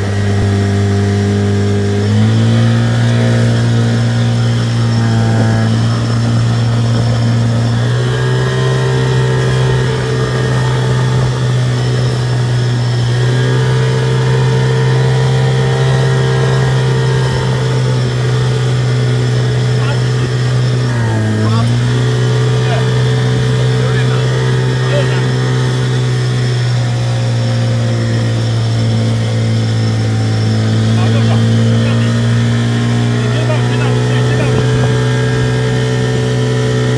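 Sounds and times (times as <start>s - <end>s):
outboard motor running: 0.0s - 36.9s.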